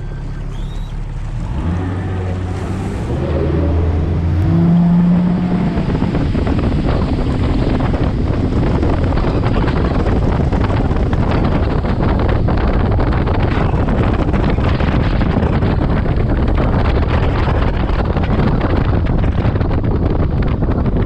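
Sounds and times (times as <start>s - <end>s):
outboard motor speeding up: 0.0s - 21.0s
wind buffeting microphone: 0.0s - 21.0s.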